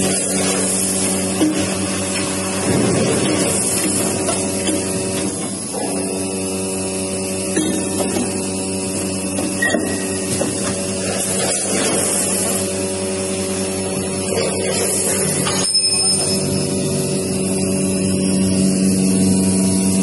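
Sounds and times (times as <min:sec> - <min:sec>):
packing machine hum: 0:00.0 - 0:20.0.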